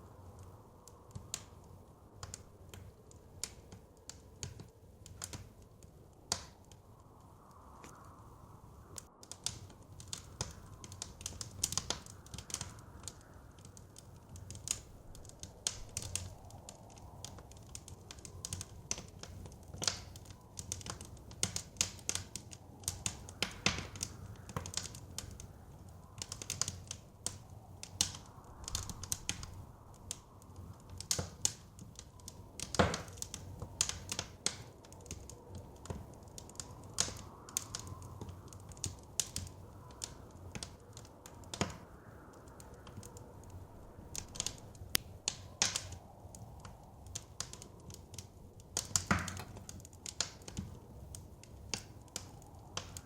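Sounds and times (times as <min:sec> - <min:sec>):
soft blizzard wind: 0:00.0 - 0:53.0
wood fire crackling and popping: 0:00.0 - 0:53.0.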